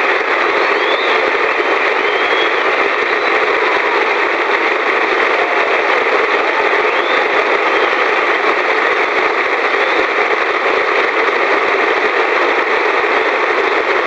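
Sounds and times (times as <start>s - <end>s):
loud static hiss: 0.0s - 14.0s.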